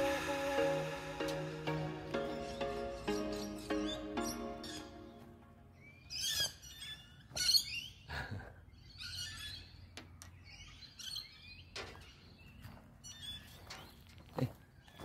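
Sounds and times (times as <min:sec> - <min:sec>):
birds chirping and twittering: 0:01.7 - 0:15.0.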